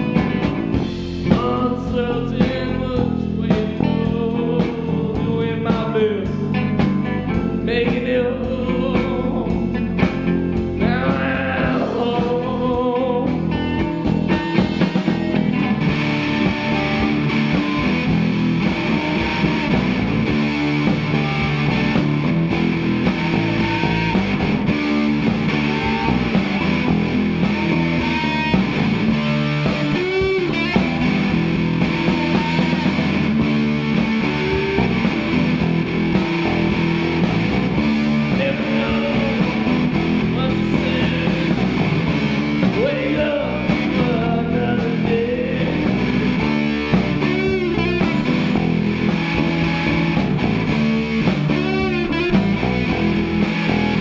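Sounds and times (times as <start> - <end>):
pitch-bending guitar melody: 0.0 - 54.0
rock band playing: 0.0 - 54.0.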